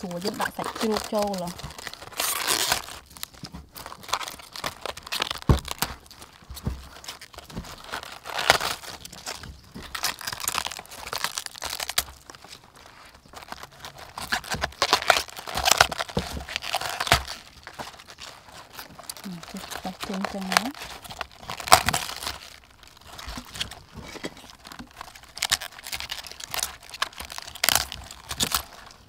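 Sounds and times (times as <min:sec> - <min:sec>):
cabbage leaves tearing and snapping: 0:00.0 - 0:29.0.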